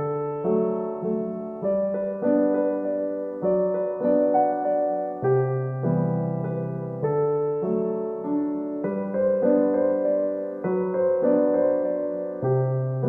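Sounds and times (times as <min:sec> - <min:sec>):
slow solo piano music: 0:00.0 - 0:13.0.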